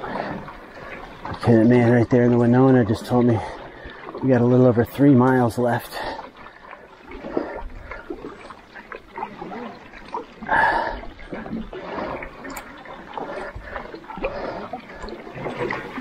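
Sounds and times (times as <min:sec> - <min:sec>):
water dripping from paddle: 0:00.0 - 0:16.0
paddle blades splashing into water: 0:02.3 - 0:16.0.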